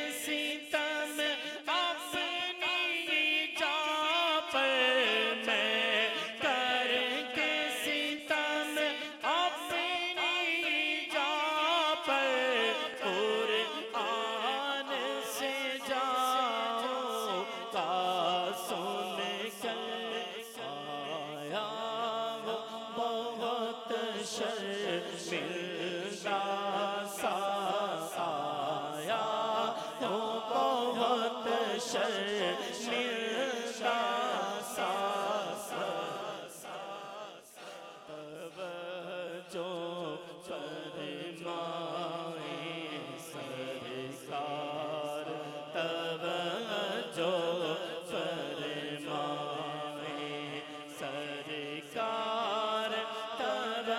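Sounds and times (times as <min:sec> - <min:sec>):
man singing devotional song: 0:00.0 - 0:53.9.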